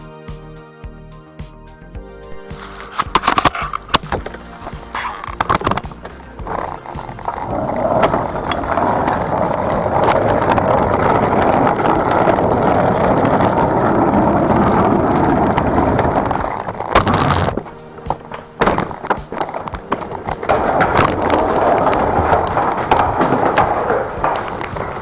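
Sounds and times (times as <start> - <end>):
cart wheels rolling on asphalt: 2.4 - 25.0.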